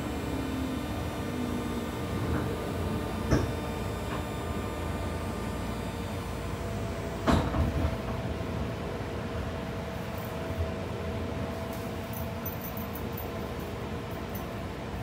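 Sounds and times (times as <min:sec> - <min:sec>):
train motor whine: 0:00.0 - 0:15.0
train running rumble: 0:00.0 - 0:15.0.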